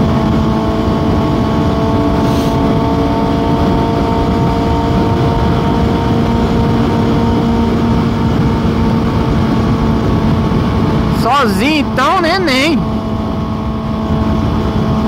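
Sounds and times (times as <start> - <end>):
motorcycle engine at steady revs: 0.0 - 15.0
wind rush on microphone: 0.0 - 15.0.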